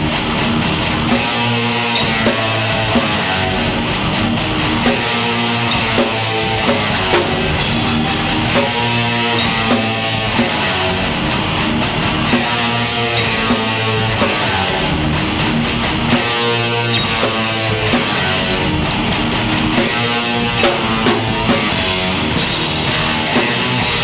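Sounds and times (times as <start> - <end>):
drum kit steady beat: 0.0 - 24.0
electric guitars chugging: 0.0 - 24.0.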